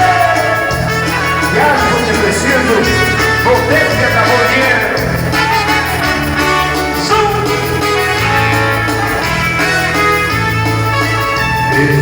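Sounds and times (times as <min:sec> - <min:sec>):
dance band playing a waltz: 0:00.0 - 0:12.0.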